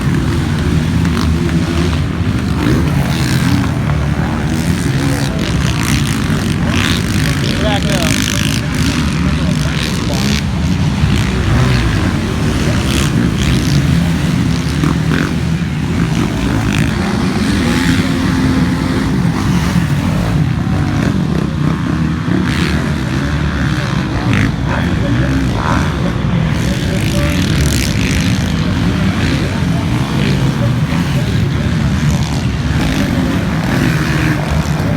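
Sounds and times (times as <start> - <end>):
motocross bike engines revving: 0.0 - 34.9.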